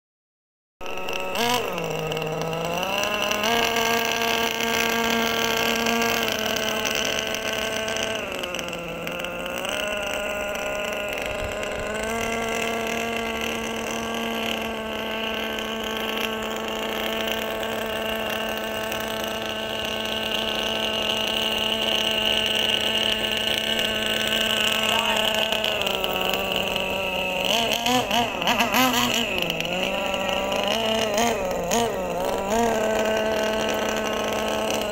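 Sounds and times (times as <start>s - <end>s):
small model boat engine: 0.8s - 34.9s.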